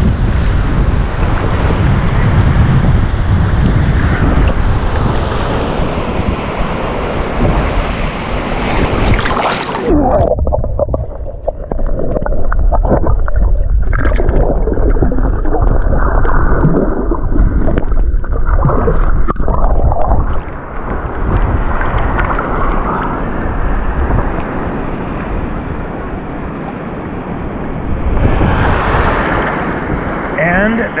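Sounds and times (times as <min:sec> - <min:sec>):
water splashing and gurgling: 0:00.5 - 0:26.7.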